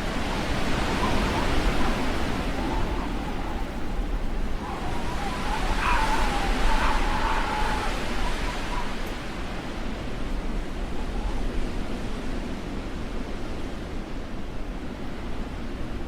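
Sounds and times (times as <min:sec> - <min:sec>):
blizzard wind rushing: 0:00.0 - 0:16.0
whistling wind howl: 0:00.0 - 0:16.0.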